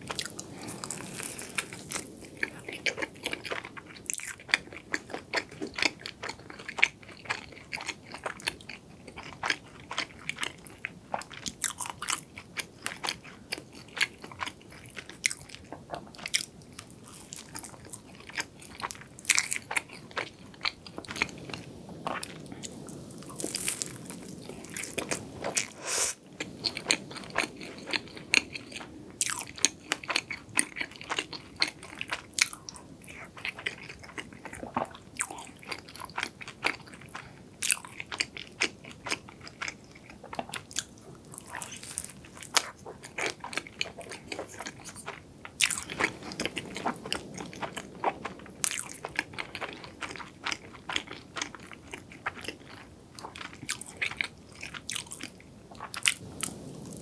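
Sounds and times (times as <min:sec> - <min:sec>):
biting and chewing crisp pastry: 0:00.0 - 0:57.0.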